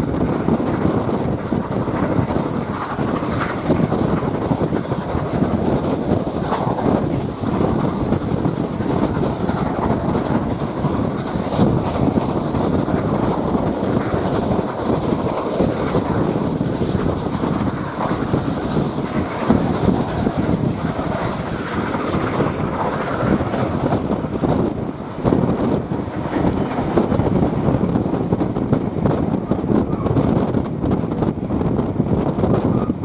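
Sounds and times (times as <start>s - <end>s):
train running noise: 0.0s - 33.0s
wind rushing over microphone: 0.0s - 33.0s.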